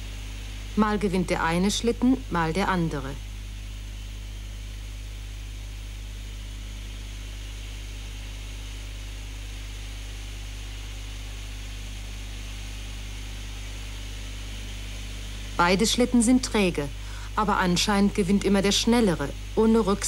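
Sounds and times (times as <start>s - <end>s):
low electrical hum: 0.0s - 20.0s
steady hiss: 0.0s - 20.0s.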